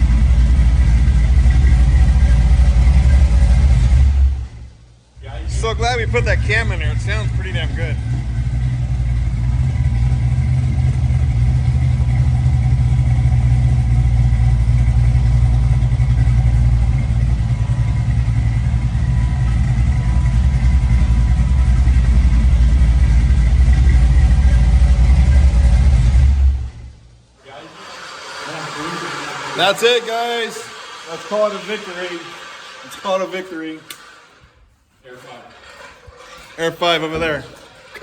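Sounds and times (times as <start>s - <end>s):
deep exhaust note: 0.0s - 32.8s
car engine running: 0.0s - 34.5s.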